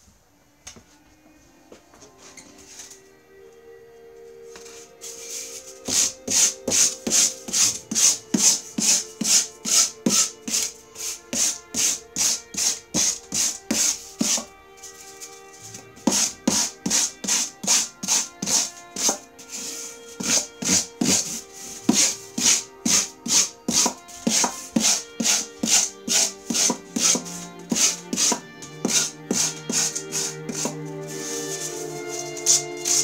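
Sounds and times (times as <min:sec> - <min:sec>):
background music: 0:00.0 - 0:33.0
hand tool scraping foam board: 0:05.0 - 0:33.0.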